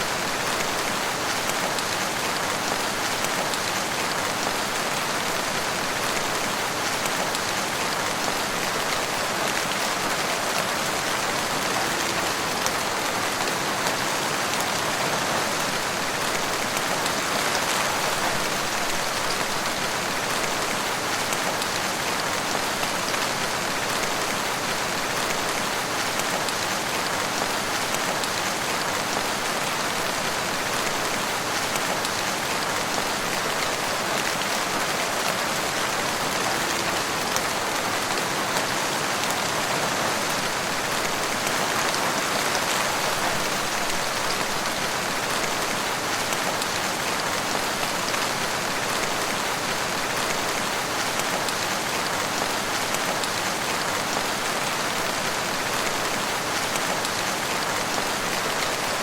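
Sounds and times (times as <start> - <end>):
rain falling in a wood: 0.0 - 59.0.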